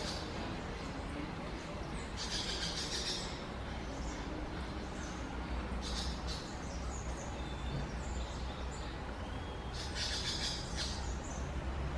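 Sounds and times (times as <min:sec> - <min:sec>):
birds chirping and calling: 0:00.0 - 0:11.9.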